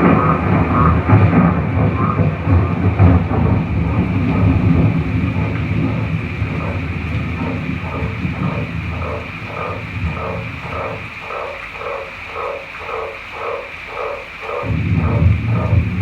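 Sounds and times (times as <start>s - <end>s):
thunder rumbling: 0.0s - 13.0s, 13.8s - 16.0s
frogs croaking: 0.0s - 16.0s
steady high hiss: 0.0s - 16.0s.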